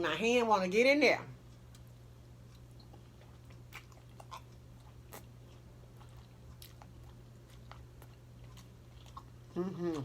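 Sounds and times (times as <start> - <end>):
steady low hum: 0.0 - 10.0
close-up chewing: 1.4 - 10.0.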